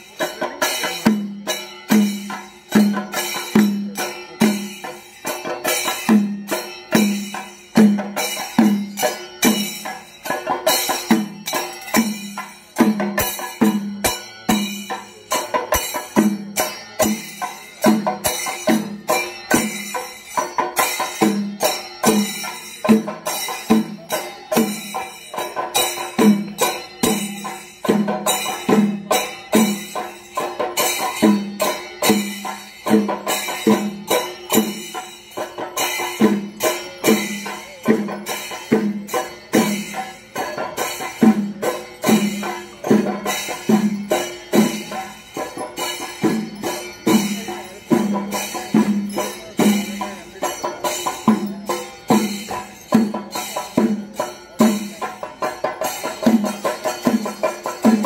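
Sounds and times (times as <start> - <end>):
drum ensemble played with sticks: 0.0 - 58.0.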